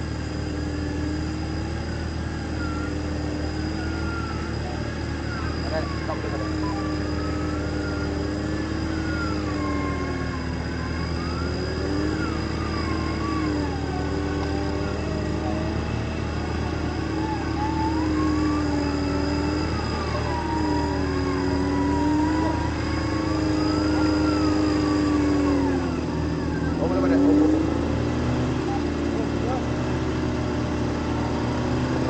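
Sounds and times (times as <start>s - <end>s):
high wavering whine: 0.0s - 32.0s
off-road engine revving: 0.0s - 32.0s.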